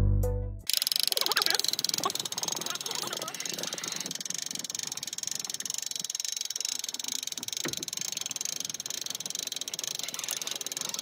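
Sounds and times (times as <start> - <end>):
hand-crank winch clicking: 0.7 - 11.0.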